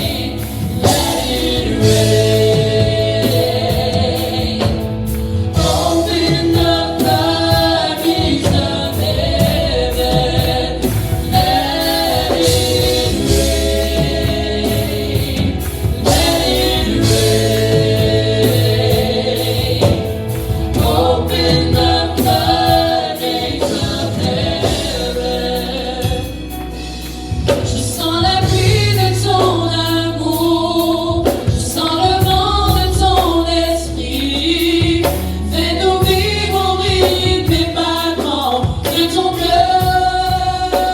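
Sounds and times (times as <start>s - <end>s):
bass and beat: 0.0s - 40.9s
choir singing gospel song: 0.0s - 40.9s.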